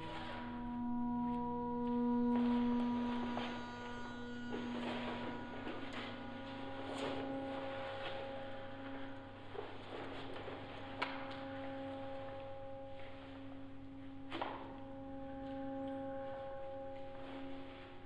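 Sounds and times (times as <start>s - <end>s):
faint low hum: 0.0s - 18.0s
low ambient drone: 0.0s - 18.0s.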